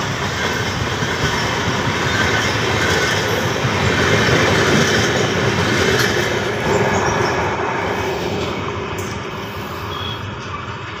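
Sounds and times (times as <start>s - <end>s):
train passing at speed: 0.0s - 11.0s
wheels rumbling over rails: 0.0s - 11.0s.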